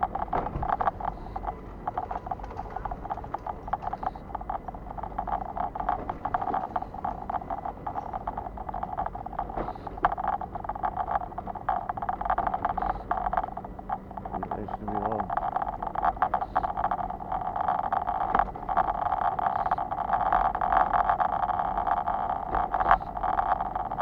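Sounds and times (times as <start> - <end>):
dense continuous crackle: 0.0 - 24.0
vehicle rumble: 0.0 - 24.0.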